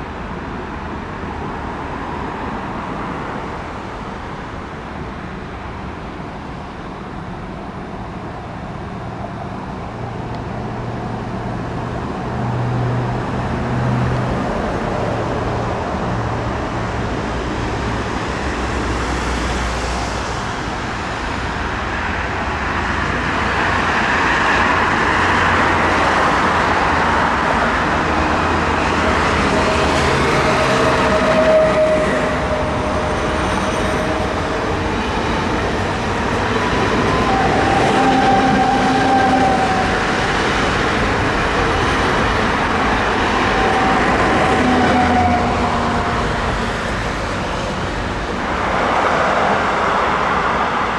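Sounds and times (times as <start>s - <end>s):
train running noise: 0.0s - 50.9s.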